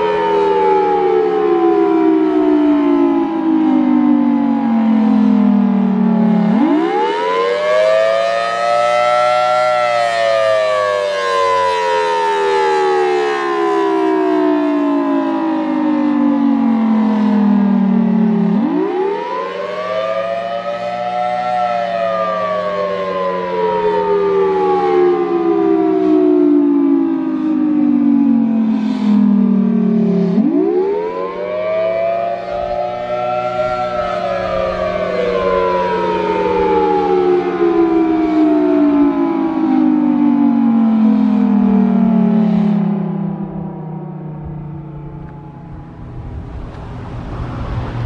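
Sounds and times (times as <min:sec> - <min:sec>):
civil defense siren wailing: 0:00.0 - 0:48.0.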